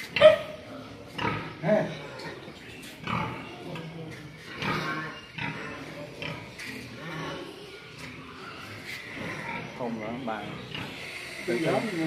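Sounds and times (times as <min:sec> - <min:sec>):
pigs grunting: 0:00.0 - 0:12.0.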